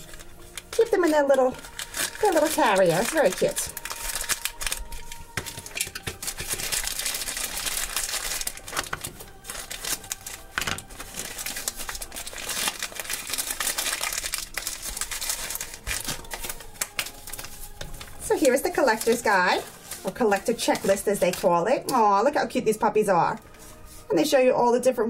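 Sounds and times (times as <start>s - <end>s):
wrapping paper crinkling: 0.0s - 22.0s, 23.3s - 24.3s.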